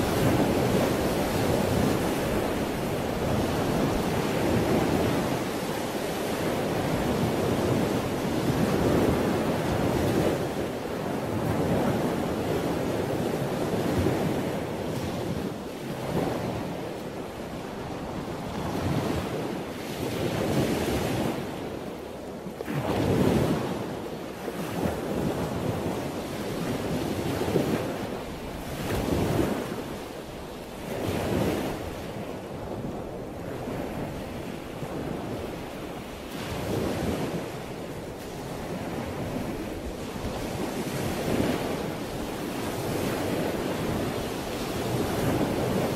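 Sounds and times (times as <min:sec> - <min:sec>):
waves washing in: 0:00.0 - 0:45.9.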